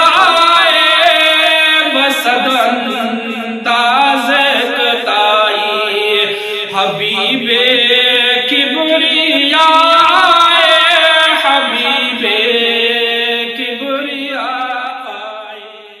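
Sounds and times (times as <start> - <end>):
man singing long held notes: 0.0 - 16.0.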